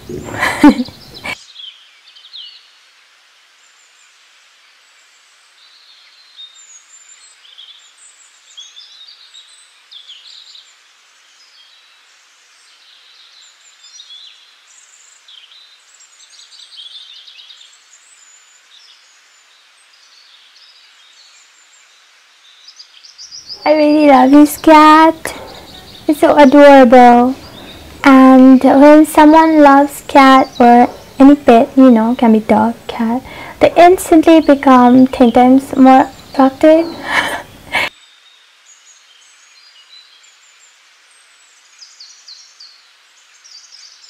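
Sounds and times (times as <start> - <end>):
small birds chirping: 0.0 - 2.8, 3.6 - 44.0
faint steady hiss: 0.0 - 44.0.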